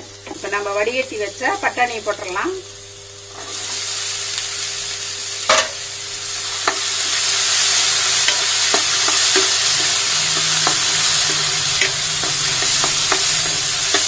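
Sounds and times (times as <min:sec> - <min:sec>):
peas sizzling in oil: 0:00.0 - 0:14.0.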